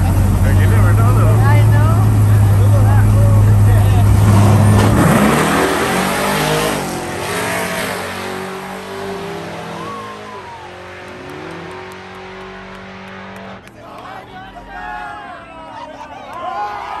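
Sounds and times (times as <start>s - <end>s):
drag racing car engine revving: 0.0s - 13.6s.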